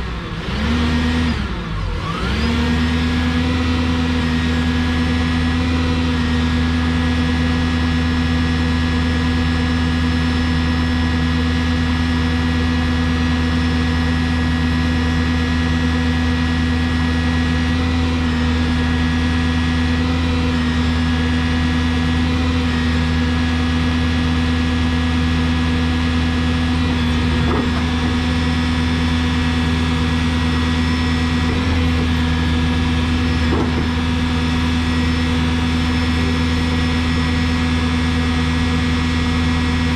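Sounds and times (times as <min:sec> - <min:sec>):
diesel forklift engine running: 0:00.0 - 0:39.9.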